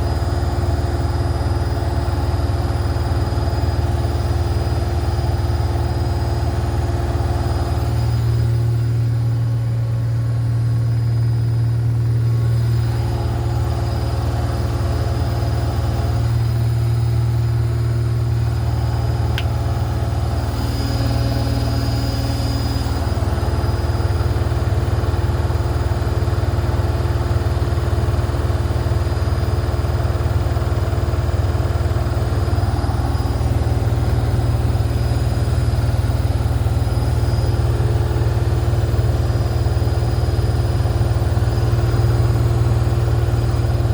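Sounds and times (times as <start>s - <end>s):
washing machine motor hum: 0.0s - 43.9s.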